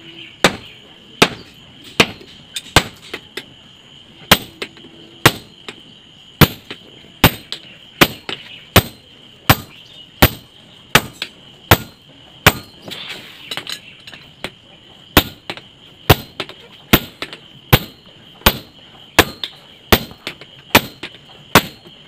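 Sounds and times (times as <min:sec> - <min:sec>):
sledgehammer striking hot steel: 0:00.4 - 0:03.2, 0:04.3 - 0:05.8, 0:06.4 - 0:22.0.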